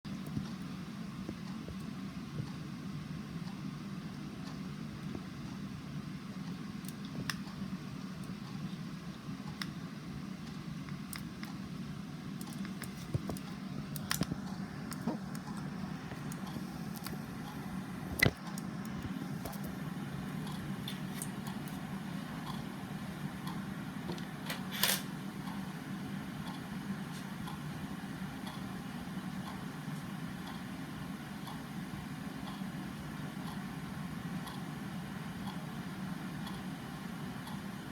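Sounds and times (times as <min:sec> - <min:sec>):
low room hum: 0:00.0 - 0:37.9.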